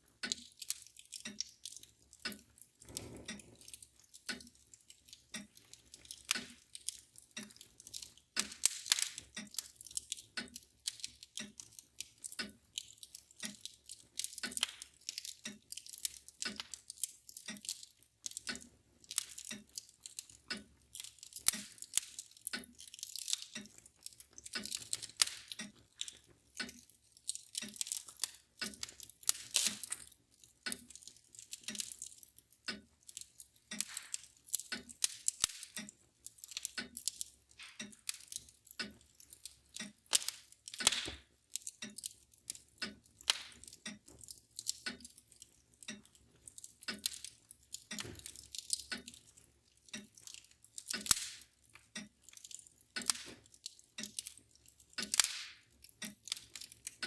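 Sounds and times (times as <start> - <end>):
mantel clock ticking: 0.0 - 57.0
wood fire crackling and popping: 0.0 - 57.0.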